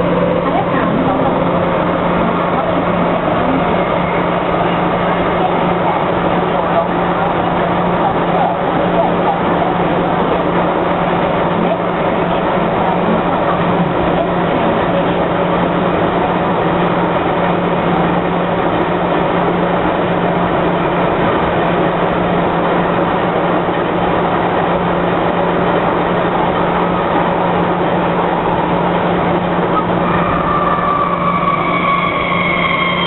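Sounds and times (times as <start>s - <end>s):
train motor whine: 0.0s - 33.0s
train wheels rumbling on rail: 0.0s - 33.0s.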